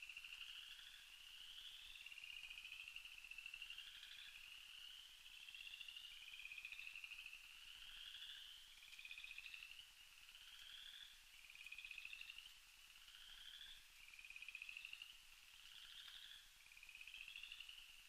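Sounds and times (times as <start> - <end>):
frogs trilling: 0.0 - 18.0.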